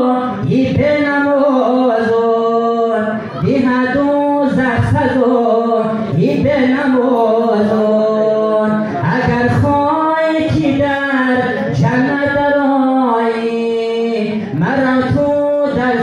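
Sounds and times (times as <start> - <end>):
man singing unaccompanied chant: 0.0 - 16.0.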